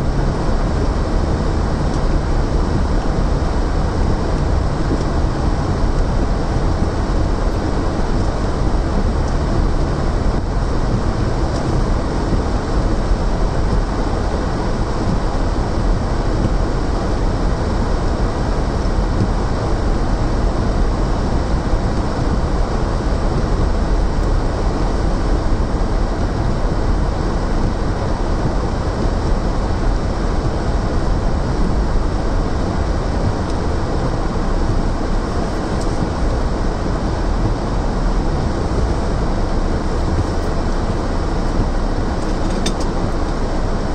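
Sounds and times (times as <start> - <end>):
car driving over snow: 0.0 - 43.9.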